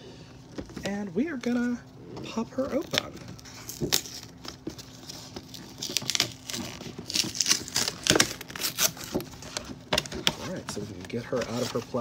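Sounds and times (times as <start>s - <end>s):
tape crackling and clicking: 0.5s - 12.0s
cardboard box being opened: 2.3s - 12.0s.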